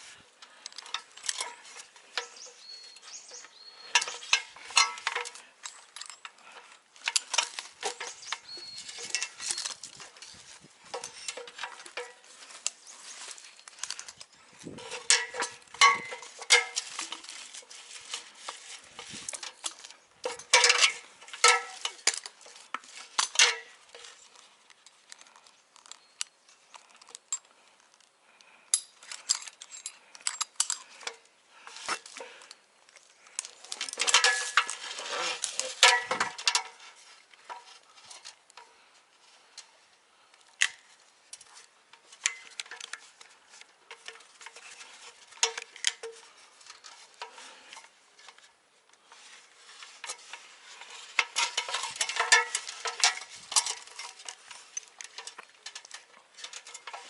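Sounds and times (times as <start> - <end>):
metal climbing hardware clinking: 0.4 - 38.9, 40.4 - 57.0.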